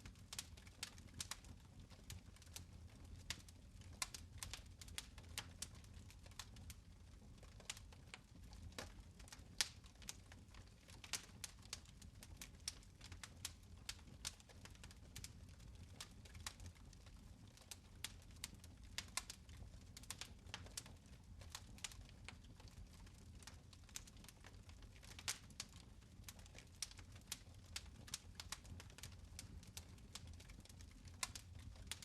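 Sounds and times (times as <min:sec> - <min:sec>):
fire crackling in fireplace: 0:00.0 - 0:32.0.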